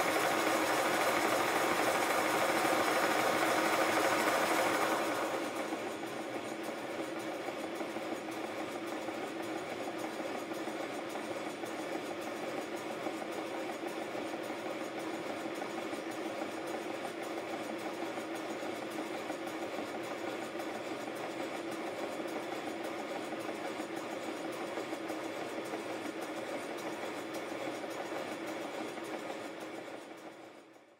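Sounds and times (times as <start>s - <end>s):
model locomotive running: 0.0s - 30.9s.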